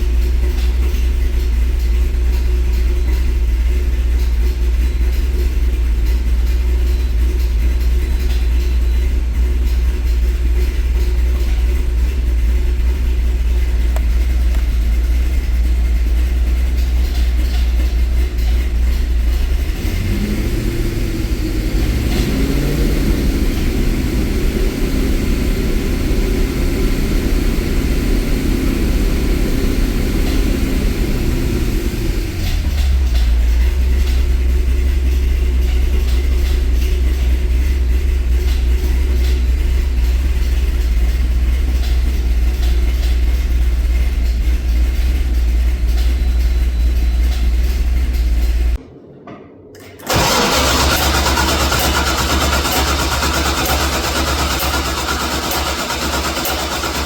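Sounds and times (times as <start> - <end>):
car engine idling and revving: 0.0 - 48.9, 49.8 - 57.0.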